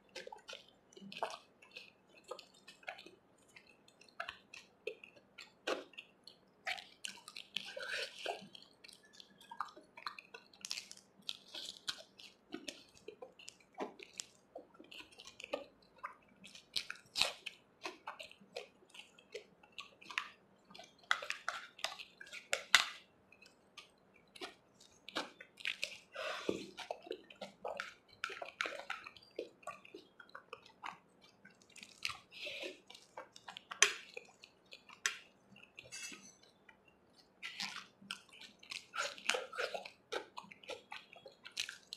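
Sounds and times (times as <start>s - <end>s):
chewing and wet mouth sounds: 0.0s - 41.9s.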